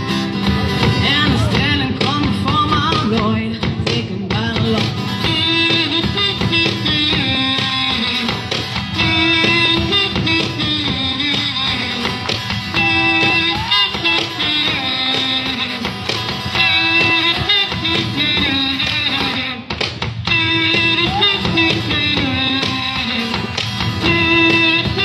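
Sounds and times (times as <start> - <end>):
held melody line: 0.0 - 25.0
strummed guitar: 0.0 - 25.0.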